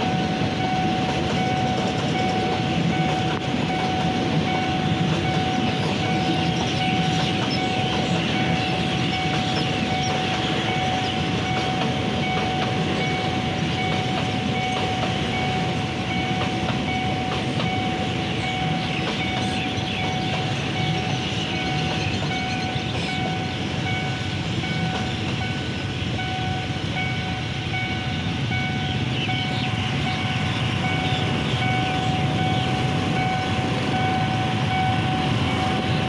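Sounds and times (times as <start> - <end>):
crossing warning bell ringing: 0.0 - 36.0
train wheels clattering on rails: 0.0 - 36.0.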